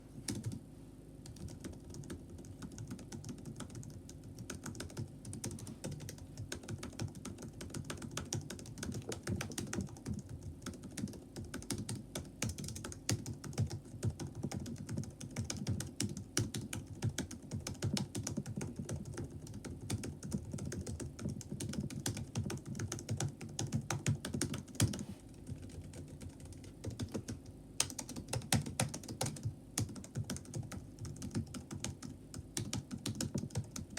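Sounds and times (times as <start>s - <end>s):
laptop keyboard typing: 0.3s - 0.6s, 1.2s - 33.9s.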